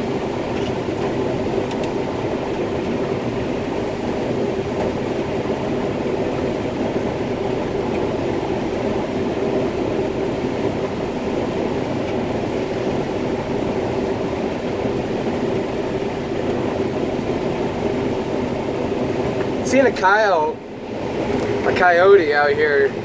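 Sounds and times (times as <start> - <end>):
combine harvester engine drone: 0.0 - 23.0.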